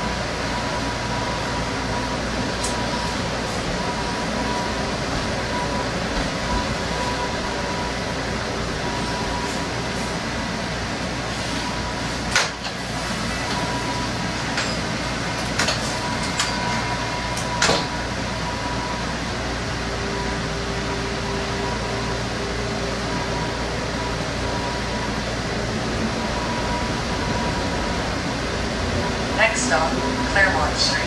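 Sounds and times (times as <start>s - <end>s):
streetcar rumble and hum: 0.0s - 31.0s.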